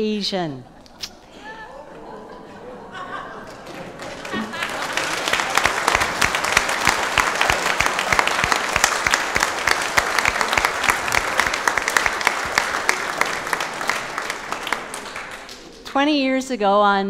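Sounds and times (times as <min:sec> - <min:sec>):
crowd applauding: 0:02.0 - 0:15.9.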